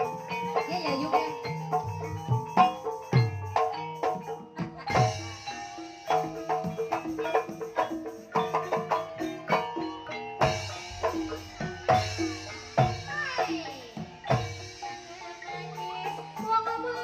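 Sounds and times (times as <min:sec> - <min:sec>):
tuned mallet percussion: 0:00.0 - 0:17.0.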